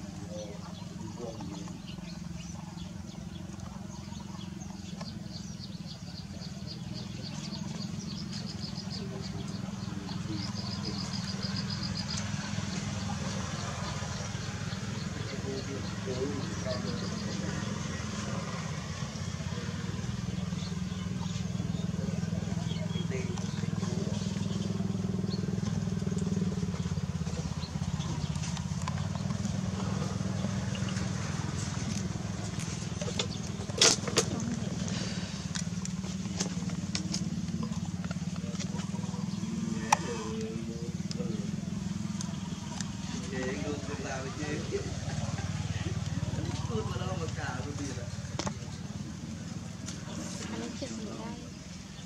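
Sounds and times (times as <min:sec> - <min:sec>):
small engine running: 0:00.0 - 0:52.0.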